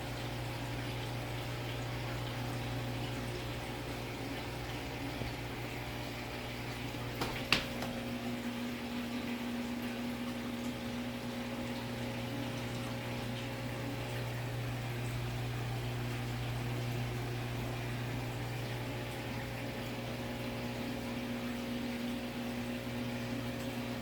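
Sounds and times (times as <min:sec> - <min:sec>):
aquarium pump hum: 0:00.0 - 0:24.0
bubbling water: 0:00.0 - 0:24.0.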